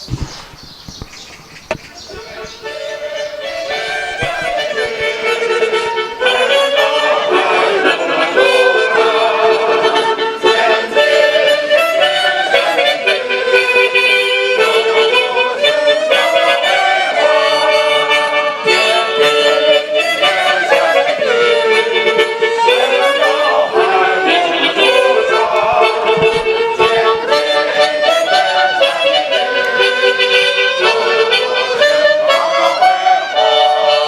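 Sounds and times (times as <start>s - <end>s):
reedy melody over held notes: 1.7s - 34.0s.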